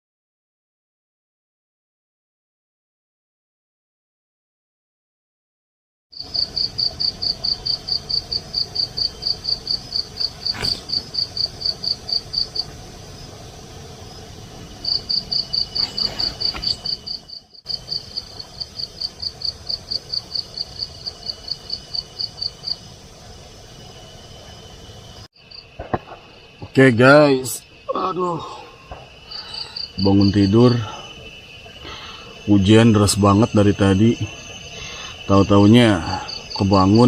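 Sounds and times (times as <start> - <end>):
high insect trill: 6.2 - 37.0
insect chirping fast: 6.2 - 37.0.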